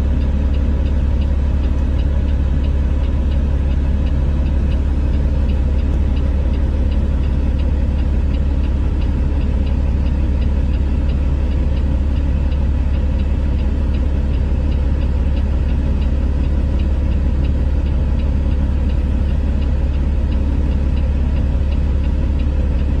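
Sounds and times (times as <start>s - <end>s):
diesel engines idling: 0.0s - 23.0s
faint regular ticking: 0.1s - 23.0s.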